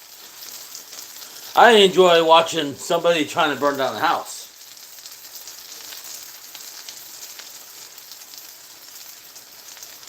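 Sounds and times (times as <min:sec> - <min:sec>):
pancakes sizzling in a pan: 0:00.0 - 0:10.0.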